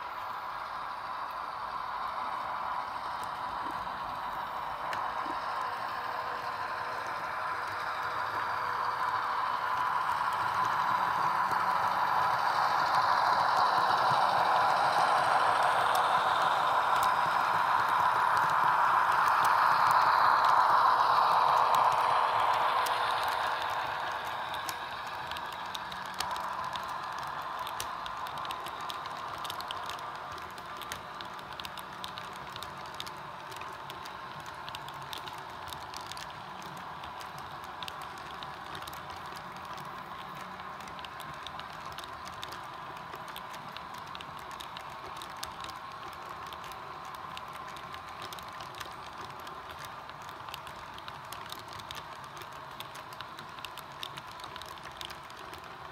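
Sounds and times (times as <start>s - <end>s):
model train wheels clicking: 0.0s - 55.9s.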